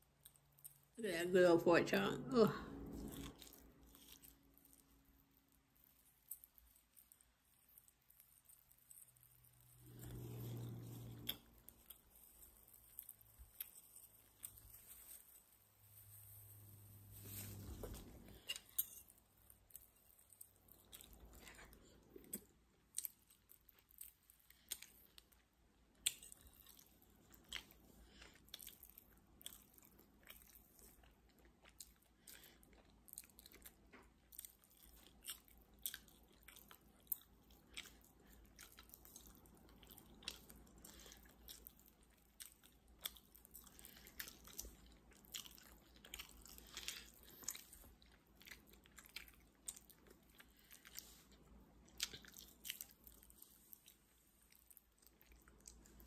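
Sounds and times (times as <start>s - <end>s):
person chewing with mouth smacks: 2.7s - 15.2s, 17.2s - 56.0s.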